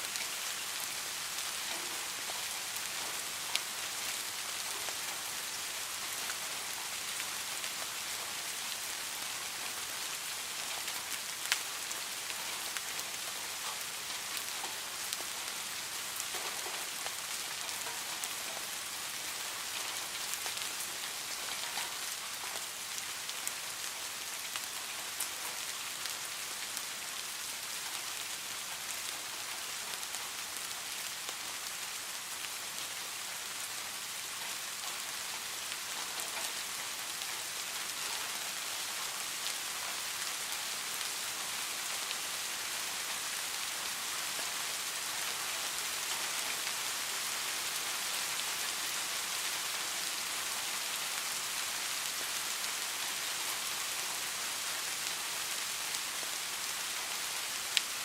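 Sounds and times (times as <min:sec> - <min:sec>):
rain on a hard surface: 0:00.0 - 0:58.0.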